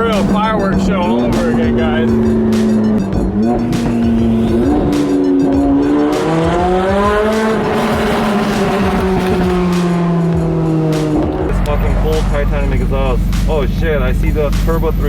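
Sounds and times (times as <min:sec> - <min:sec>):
lower engine note: 0:00.0 - 0:15.0
sports car engine revving: 0:00.0 - 0:15.0.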